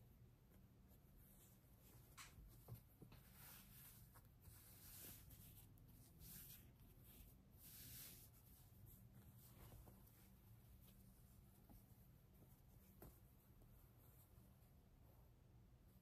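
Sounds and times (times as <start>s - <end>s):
fabric rustling: 0.3s - 16.0s.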